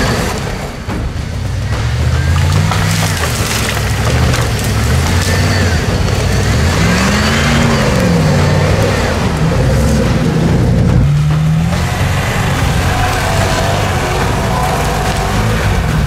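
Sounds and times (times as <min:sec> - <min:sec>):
engine revving under load: 0:00.0 - 0:16.0.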